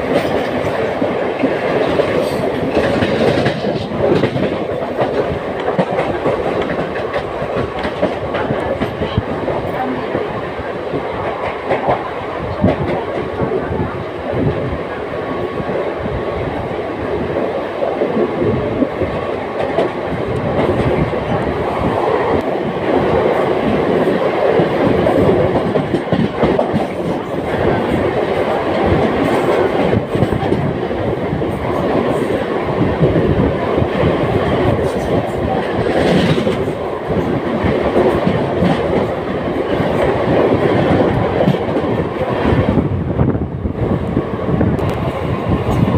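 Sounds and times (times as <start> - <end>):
train wheels knocking: 0.0 - 14.7, 17.3 - 42.8
electric train rumbling: 0.0 - 45.9.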